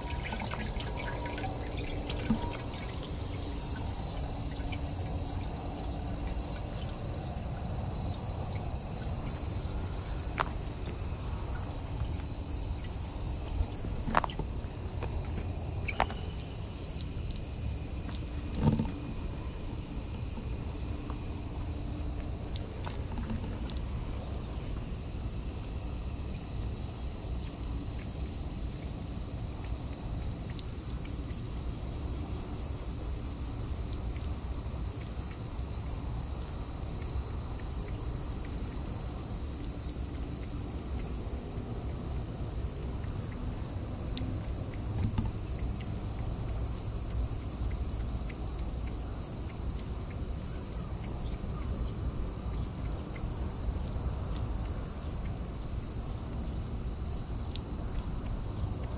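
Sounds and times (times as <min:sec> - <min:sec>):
high-pitched insect drone: 0:00.0 - 0:58.9
trickle of running water: 0:00.0 - 0:58.9.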